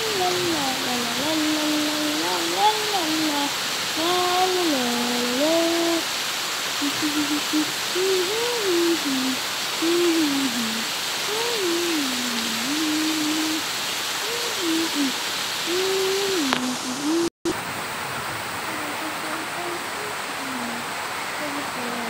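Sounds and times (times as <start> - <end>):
person humming: 0.0 - 6.1, 6.8 - 13.6, 14.2 - 17.3, 18.7 - 20.8, 21.4 - 22.0
heavy rain on foliage: 0.0 - 22.0.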